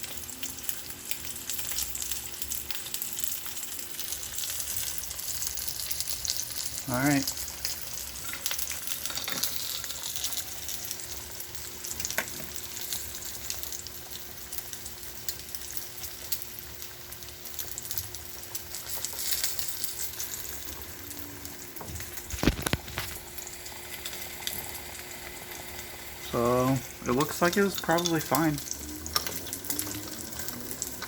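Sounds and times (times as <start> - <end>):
food sizzling on stovetop: 0.0 - 31.0.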